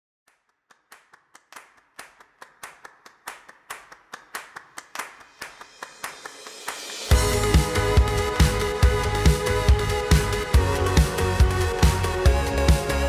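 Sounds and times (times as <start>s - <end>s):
hand clapping: 0.3s - 13.0s.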